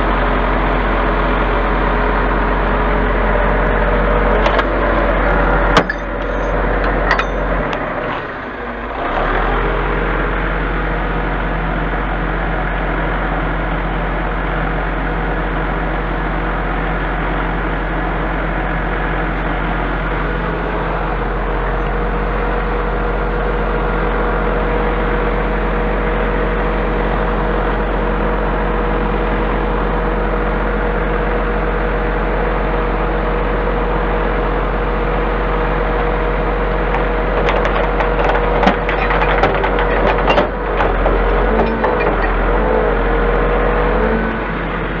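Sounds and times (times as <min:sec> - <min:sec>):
crane hydraulics whine: 0:00.0 - 0:14.7, 0:16.7 - 0:45.0
truck engine drone: 0:00.0 - 0:45.0.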